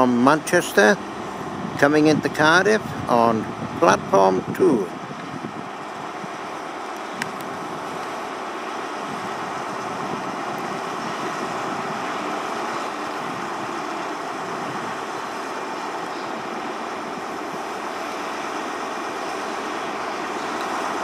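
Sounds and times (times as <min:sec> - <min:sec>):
train diesel engine running: 0:00.0 - 0:21.0.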